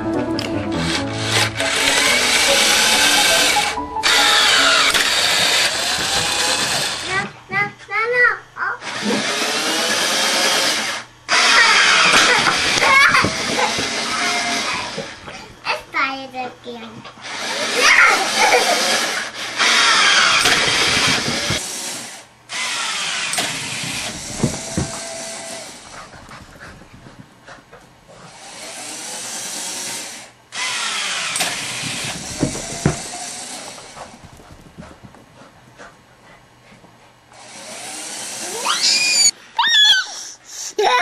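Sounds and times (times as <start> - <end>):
ball launcher motor whining: 0.0 - 7.6, 8.7 - 15.8, 17.0 - 26.5, 28.3 - 34.5, 37.3 - 40.0.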